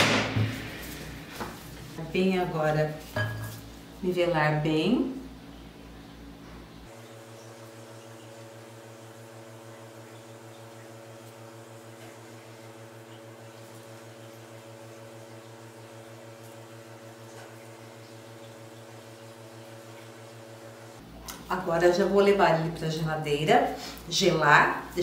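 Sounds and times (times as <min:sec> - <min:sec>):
steady low electrical hum: 0:00.0 - 0:25.0.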